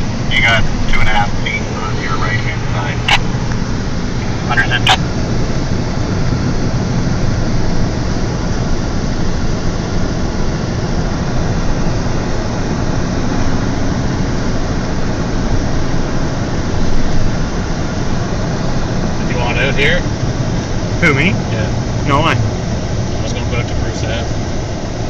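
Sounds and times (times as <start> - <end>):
low engine hum: 0.0 - 25.0
road and wind noise: 0.0 - 25.0.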